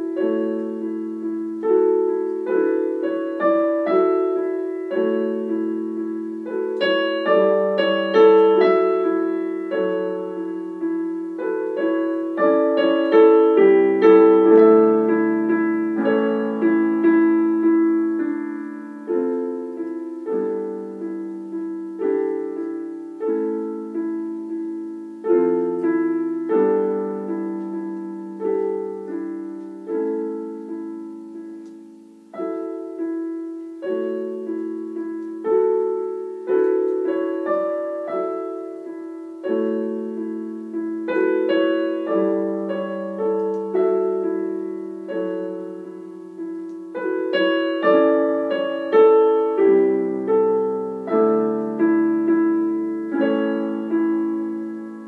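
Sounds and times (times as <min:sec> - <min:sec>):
slow gentle solo piano: 0:00.0 - 0:55.0.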